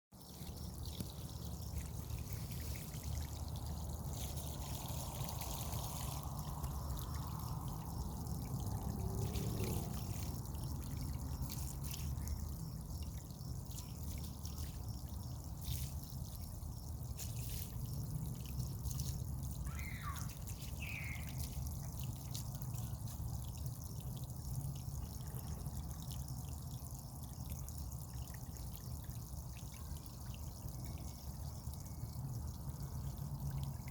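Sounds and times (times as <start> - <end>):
water trickling and pouring: 0.1 - 33.9.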